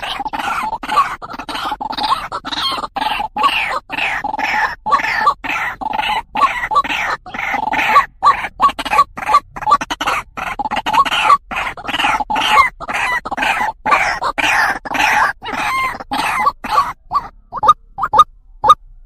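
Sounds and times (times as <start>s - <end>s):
bird croaking call: 0.0s - 18.8s.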